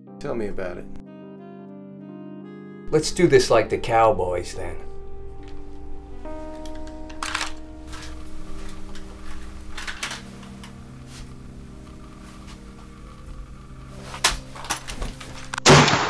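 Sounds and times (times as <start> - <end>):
suspense film score: 2.9 - 16.0.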